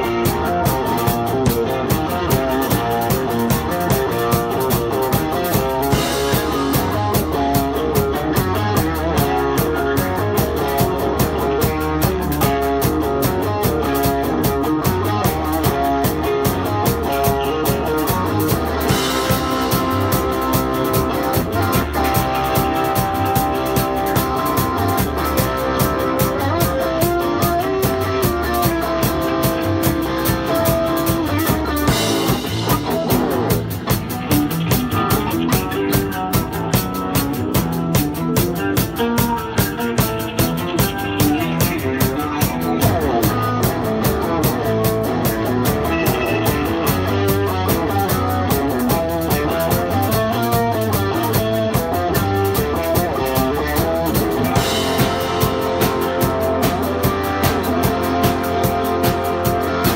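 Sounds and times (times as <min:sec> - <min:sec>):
drum kit beat: 0:00.0 - 0:59.9
electric guitar: 0:00.0 - 0:59.9.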